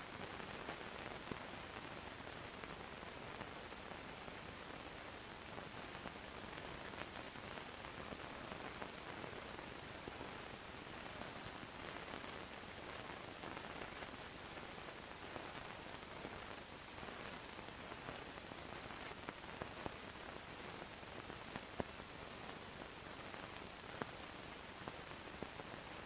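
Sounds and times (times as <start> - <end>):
film surface hiss: 0.0 - 26.0
faint clicks and pops: 0.2 - 26.0.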